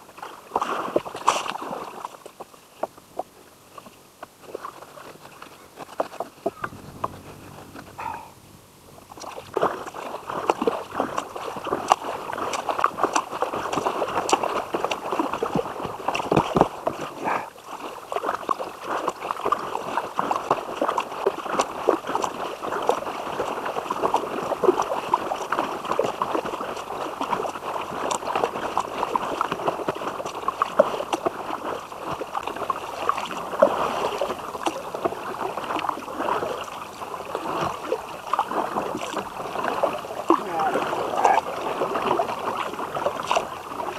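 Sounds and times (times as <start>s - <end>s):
water splashing against kayak: 0.0s - 43.9s.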